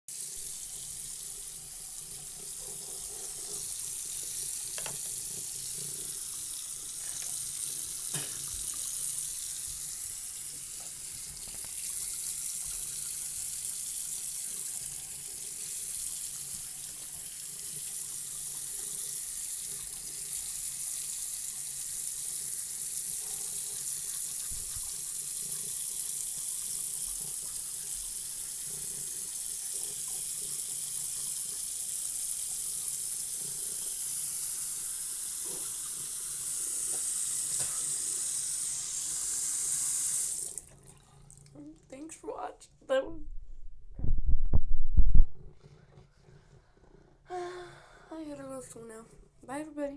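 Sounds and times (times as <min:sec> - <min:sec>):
water running from a tap: 0:00.1 - 0:41.9.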